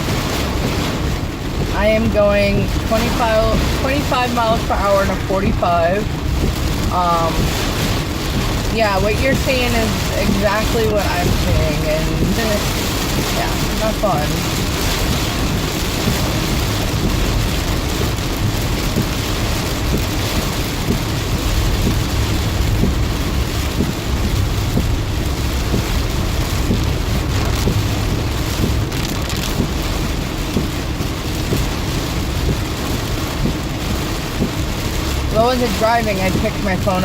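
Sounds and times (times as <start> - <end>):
car and tyres rumbling on wet road: 0.0 - 37.0
heavy rain on a car: 0.0 - 37.0.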